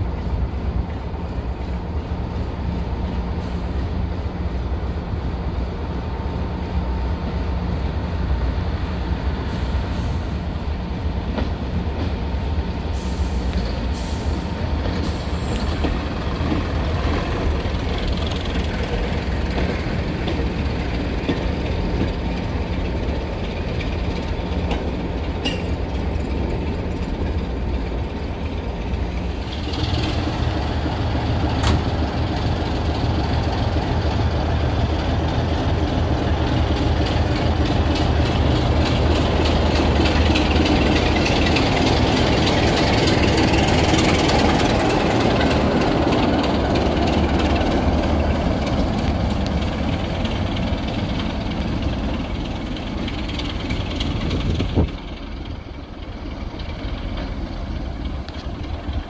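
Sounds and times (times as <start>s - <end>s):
diesel railcar engine rumbling: 0.0s - 59.0s.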